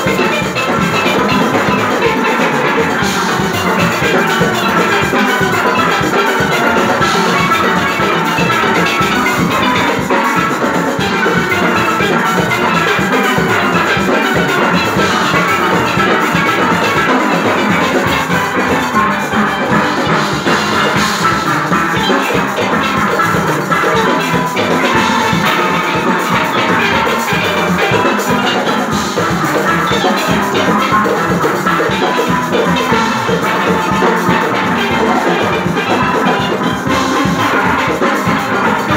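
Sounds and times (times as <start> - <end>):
drums and percussion beat: 0.0 - 38.9
steel pans playing melody: 0.0 - 38.9.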